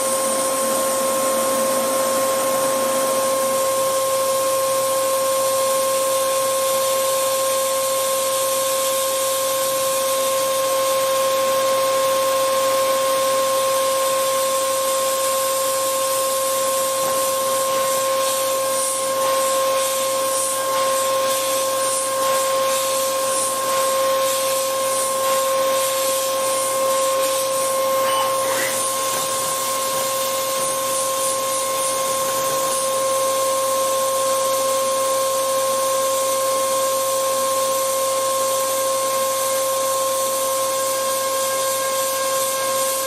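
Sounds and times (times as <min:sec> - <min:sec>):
milling cutter high whine: 0:00.0 - 0:43.0.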